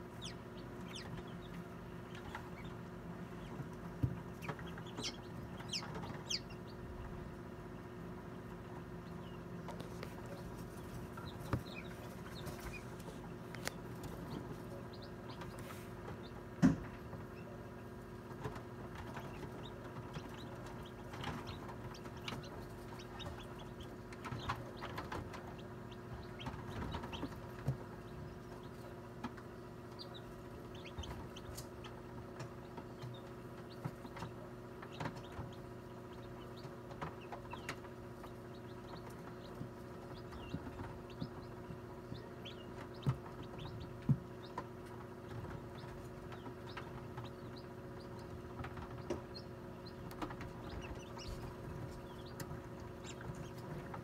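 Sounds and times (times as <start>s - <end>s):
chicks peeping: 0.0s - 54.0s
incubator fan hum: 0.0s - 54.0s.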